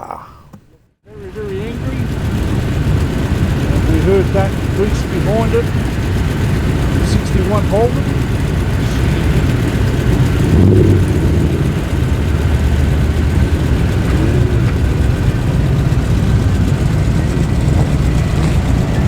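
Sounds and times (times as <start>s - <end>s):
car engines rumbling: 1.1s - 19.0s.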